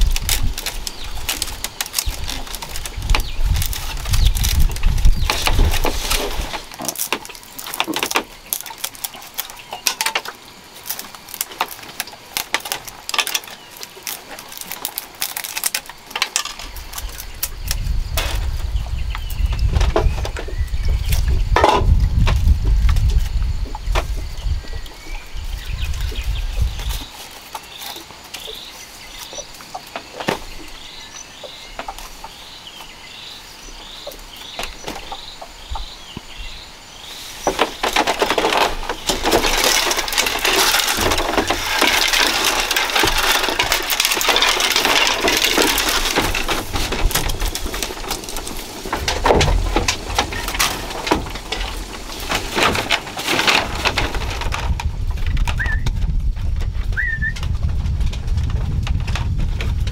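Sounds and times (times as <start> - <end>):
dry bamboo strips rustling: 0.0 - 59.9.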